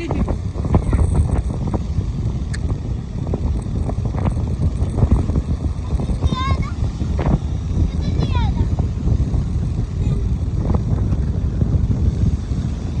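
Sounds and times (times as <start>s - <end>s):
rough sea: 0.0s - 13.0s
wind buffeting microphone: 0.0s - 13.0s.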